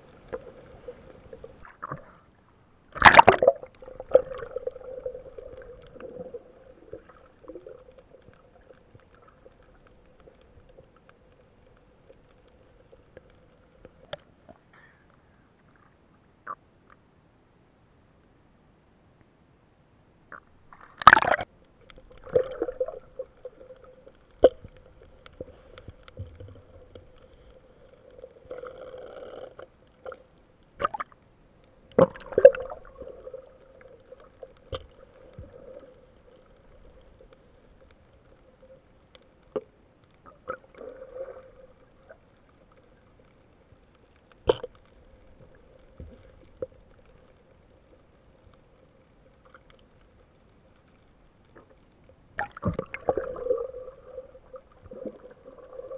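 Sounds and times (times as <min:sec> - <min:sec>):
underwater bubbling: 0:00.0 - 0:17.0, 0:20.3 - 0:55.9
faint steady hum: 0:00.0 - 0:55.9.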